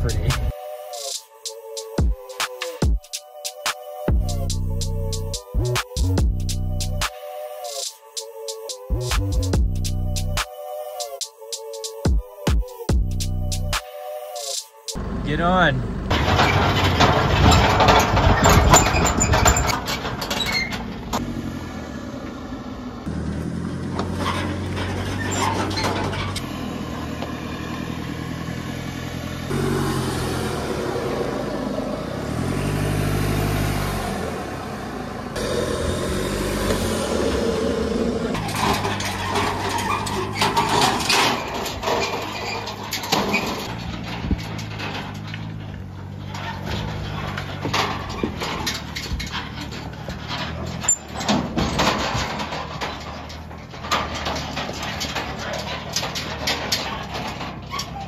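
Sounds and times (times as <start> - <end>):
diesel engine under load: 0.0 - 0.6, 4.0 - 7.1, 8.3 - 10.4, 13.0 - 13.8, 15.0 - 58.0.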